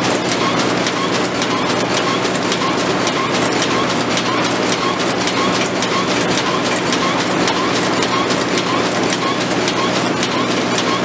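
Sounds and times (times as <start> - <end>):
wrapping machine clattering: 0.0 - 11.0.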